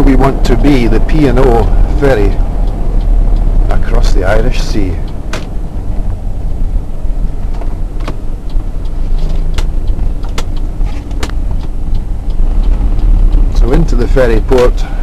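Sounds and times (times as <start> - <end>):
sharp clicks: 0.0 - 14.8
car interior road rumble: 0.0 - 15.0.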